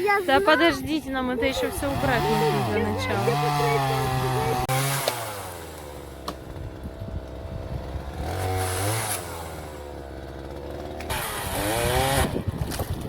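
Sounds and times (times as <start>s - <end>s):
chainsaw revving: 1.4s - 13.0s.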